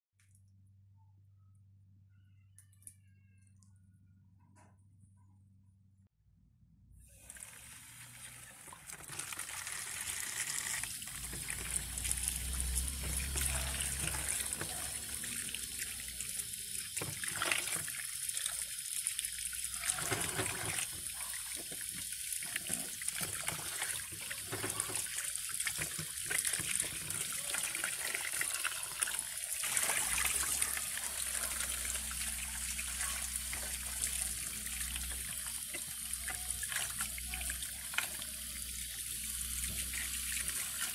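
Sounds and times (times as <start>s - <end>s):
tap water running into basin: 7.1s - 40.9s
hands rinsing vegetables splashing: 7.2s - 40.9s.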